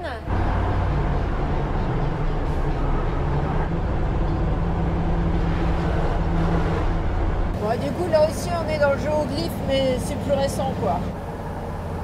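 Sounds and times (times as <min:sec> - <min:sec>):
road and wind noise: 0:00.0 - 0:12.0
vehicle engine droning: 0:00.0 - 0:12.0.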